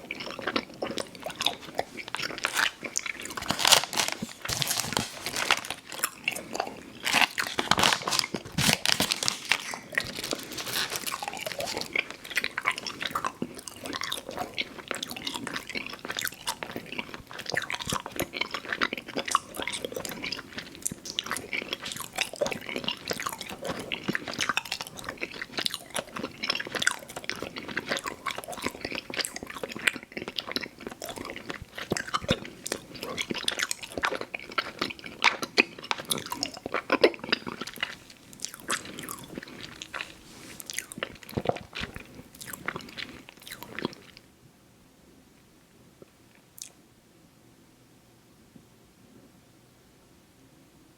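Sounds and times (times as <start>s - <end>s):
chewing sticky candy: 0.0s - 44.3s.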